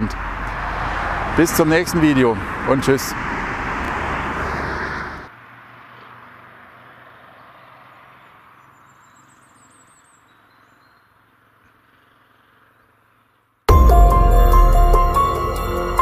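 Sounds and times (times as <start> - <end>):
distant vehicle noise: 0.0 - 16.0
road noise rush: 0.0 - 16.0.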